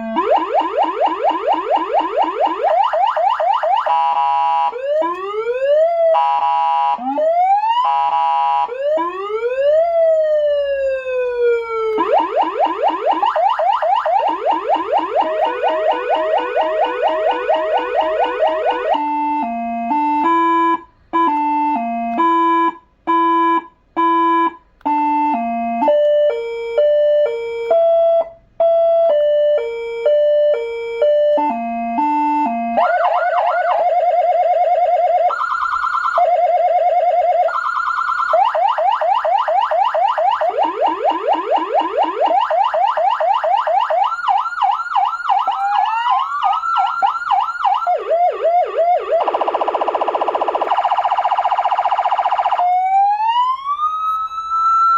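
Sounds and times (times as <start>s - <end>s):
electronic siren cycling tones: 0.0s - 54.9s.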